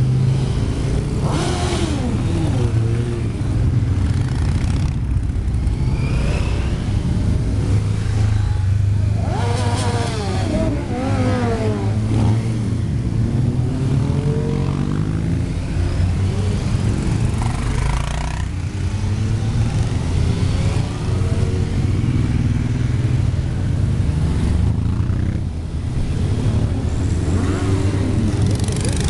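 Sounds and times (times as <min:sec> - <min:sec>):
motorcycles riding past: 0:00.0 - 0:29.0.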